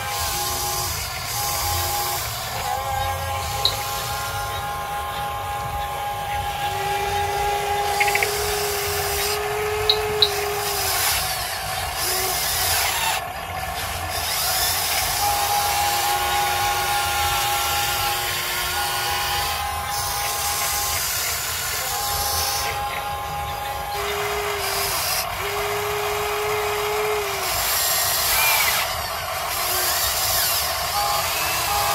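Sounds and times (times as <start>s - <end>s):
constant grinding rumble: 0.0s - 31.9s
electric motors whining: 0.0s - 31.9s.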